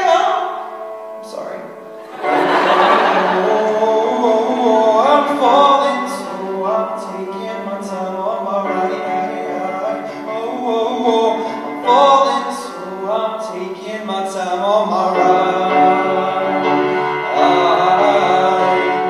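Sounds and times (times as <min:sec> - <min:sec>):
man singing: 0:00.0 - 0:00.6, 0:03.0 - 0:19.0
piano: 0:00.0 - 0:19.0.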